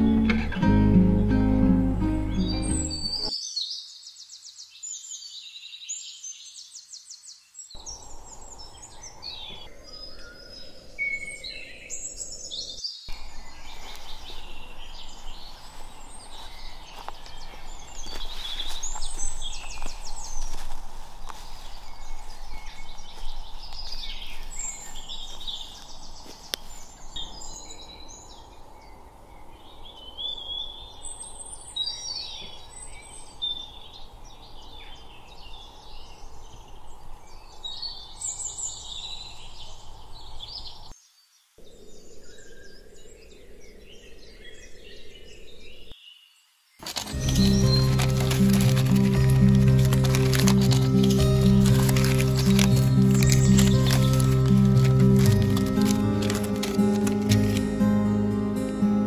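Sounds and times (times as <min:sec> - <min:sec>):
birds chirping and trilling: 0:01.2 - 0:59.0
low outdoor background noise: 0:03.2 - 0:59.0.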